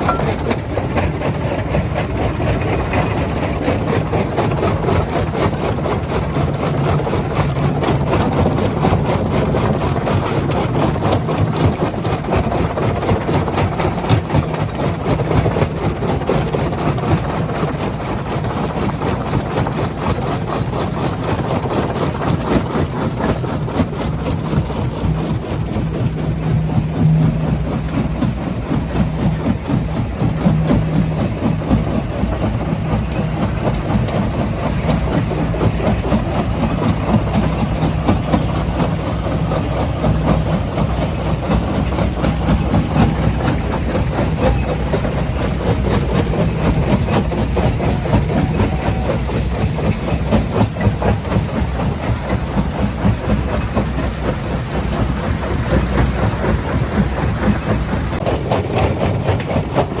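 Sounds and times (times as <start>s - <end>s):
diesel engine drone: 0.0s - 60.0s.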